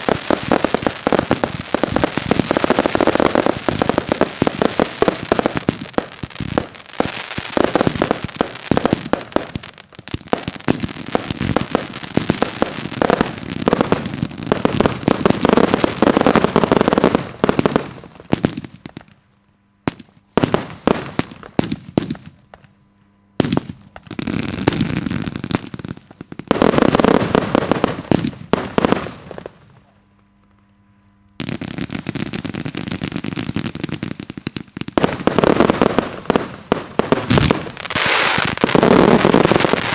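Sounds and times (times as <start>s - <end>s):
firework bangs: 0.0s - 19.1s, 19.9s - 22.8s, 23.4s - 29.9s, 31.4s - 39.9s
firework crackling: 0.0s - 19.2s, 23.4s - 29.9s, 31.4s - 39.9s.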